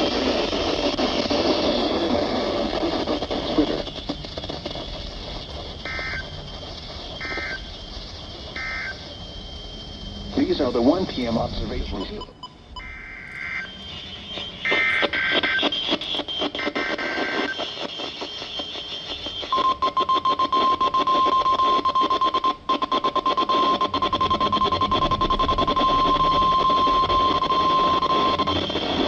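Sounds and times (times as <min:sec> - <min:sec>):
data header burst: 0:00.0 - 0:29.0
radio static: 0:00.0 - 0:29.0
steady warning alarm tone: 0:00.0 - 0:29.0.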